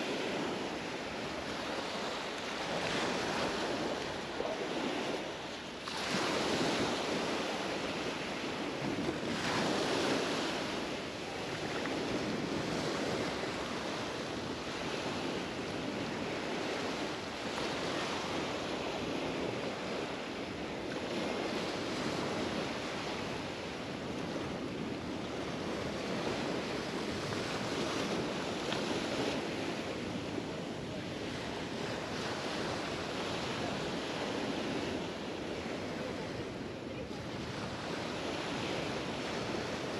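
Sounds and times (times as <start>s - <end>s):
surf washing onto beach: 0.0s - 39.9s.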